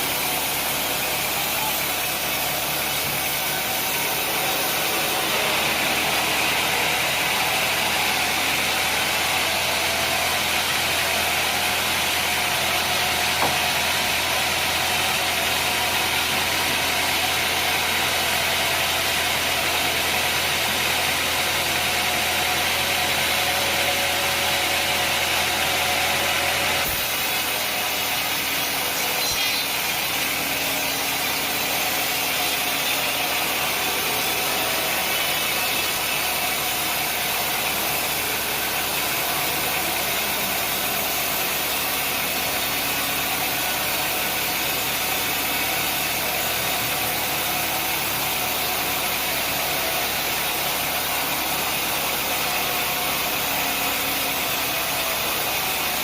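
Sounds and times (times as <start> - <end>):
saw cutting through log: 0.0 - 56.0
sawmill engine running: 0.0 - 56.0.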